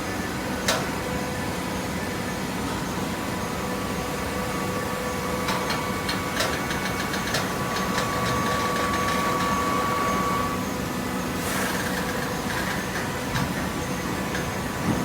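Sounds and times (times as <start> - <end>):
baler motor and pump hum: 0.0 - 15.0.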